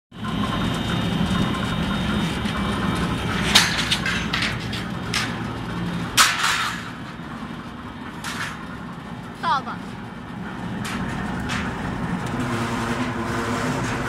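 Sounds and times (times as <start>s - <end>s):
machine mechanical hum: 0.2s - 14.0s.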